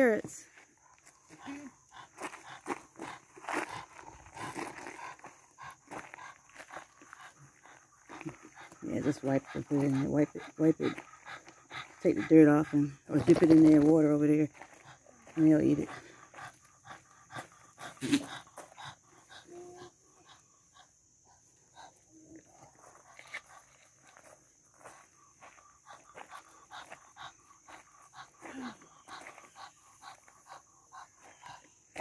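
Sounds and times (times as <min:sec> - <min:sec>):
hooves shuffling on gravel: 0:00.2 - 0:19.0, 0:22.5 - 0:32.0.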